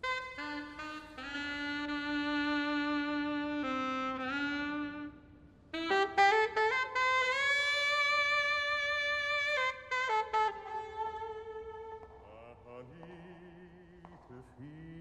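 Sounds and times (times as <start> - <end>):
alto saxophone melody: 0.0 - 14.1.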